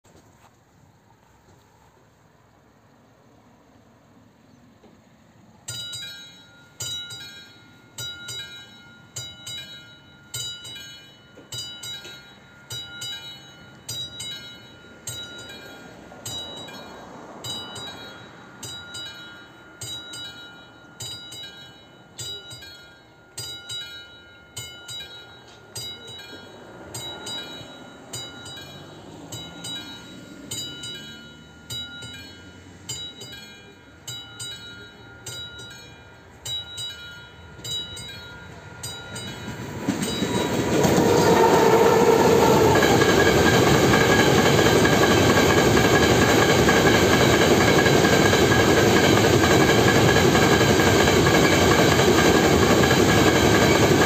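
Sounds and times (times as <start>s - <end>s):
electronic warning bell dinging: 5.7s - 54.0s.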